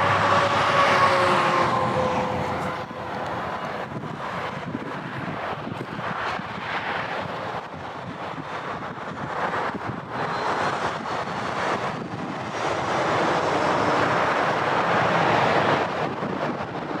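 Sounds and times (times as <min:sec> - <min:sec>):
freeway traffic rushing: 0:00.0 - 0:17.0
train rolling over overpass: 0:00.0 - 0:17.0
wind on microphone: 0:00.0 - 0:17.0.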